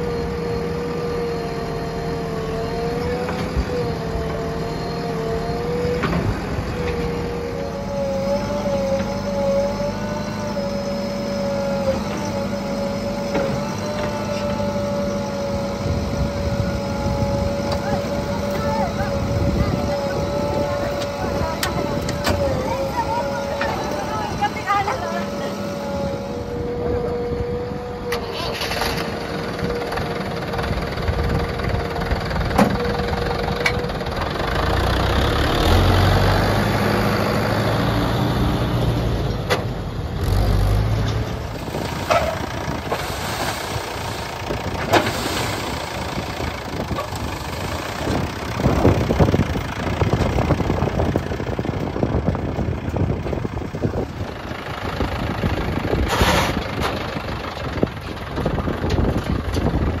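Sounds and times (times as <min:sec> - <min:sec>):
tractor diesel engine revving: 0:00.0 - 1:00.0.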